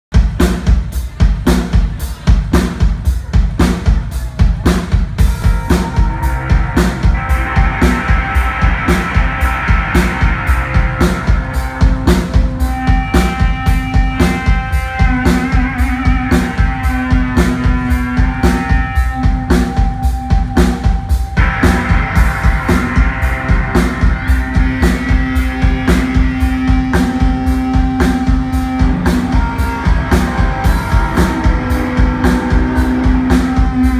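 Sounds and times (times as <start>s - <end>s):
drum kit beat: 0.0s - 33.9s
guitars playing: 5.2s - 33.9s.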